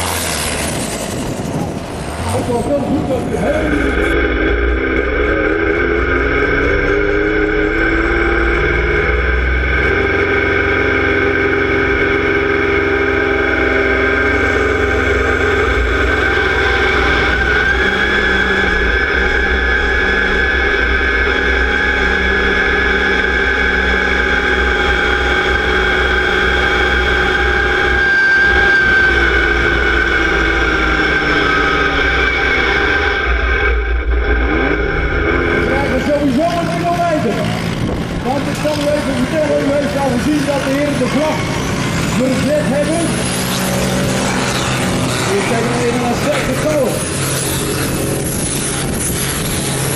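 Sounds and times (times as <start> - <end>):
high whine: 0.0 - 49.9
tractor diesel engine under load: 0.0 - 49.9.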